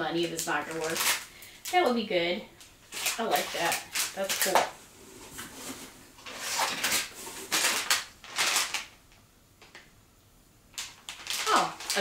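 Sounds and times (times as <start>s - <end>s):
packaging rustling: 0.2s - 1.9s, 2.6s - 9.8s, 10.7s - 12.0s.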